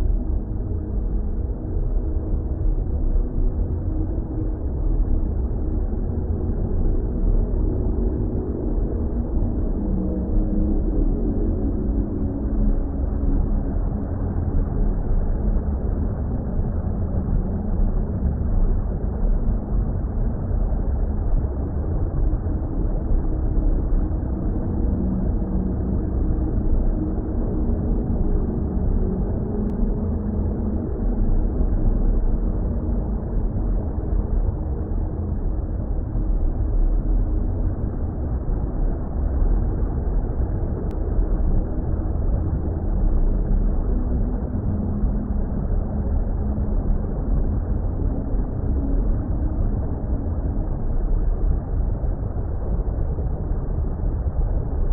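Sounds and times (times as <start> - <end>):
faint low drone: 0.0 - 54.9
faint steady hum: 0.0 - 54.9
muffled underwater water rumble: 0.0 - 54.9.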